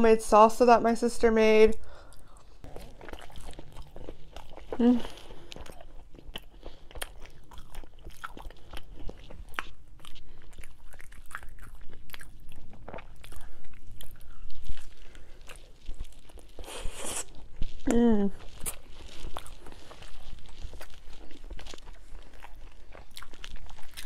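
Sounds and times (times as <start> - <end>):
person chewing food: 1.9 - 24.0.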